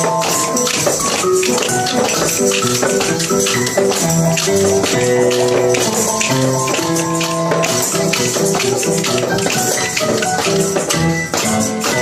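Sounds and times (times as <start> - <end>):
shakers rattling: 0.0 - 12.0
steady melody: 0.0 - 12.0
tambourines jingling: 0.0 - 12.0.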